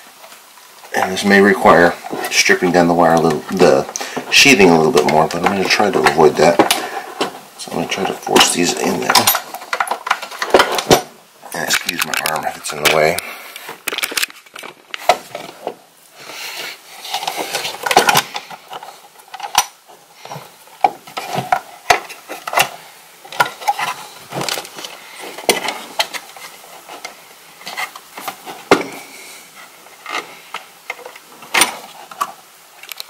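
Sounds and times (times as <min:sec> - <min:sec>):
rustling handling noise: 0:00.0 - 0:33.0.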